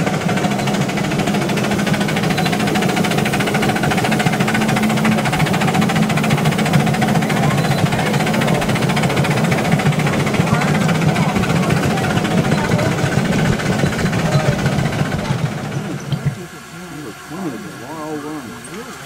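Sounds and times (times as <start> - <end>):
fast mechanical rhythm: 0.0 - 19.0
miniature steam train running: 0.0 - 19.0.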